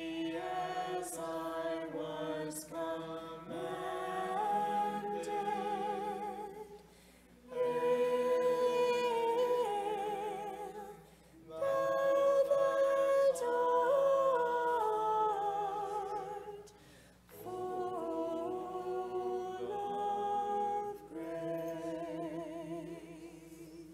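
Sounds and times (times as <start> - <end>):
voices chanting a hymn: 0.0 - 23.9.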